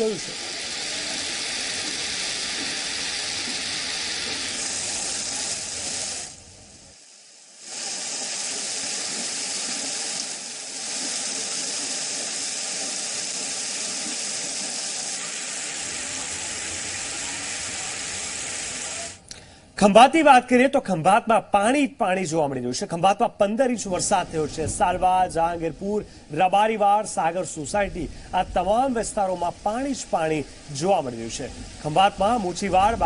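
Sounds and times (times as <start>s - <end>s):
heavy rain pouring: 0.0s - 19.2s, 23.8s - 33.0s
floodwater running: 0.0s - 19.3s, 23.6s - 33.0s.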